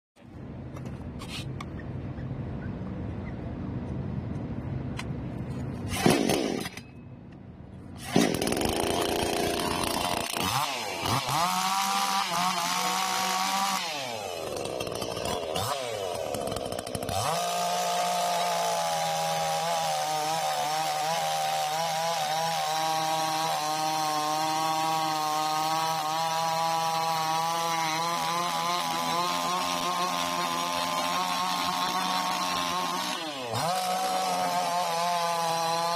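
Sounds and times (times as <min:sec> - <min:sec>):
chainsaw engine revving: 0:05.9 - 0:06.8, 0:08.0 - 0:35.9.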